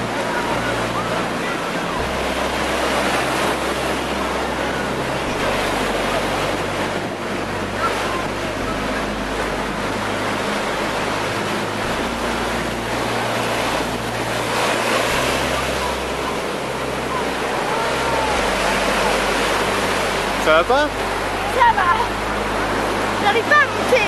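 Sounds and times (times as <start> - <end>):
surf breaking on beach: 0.0 - 24.0.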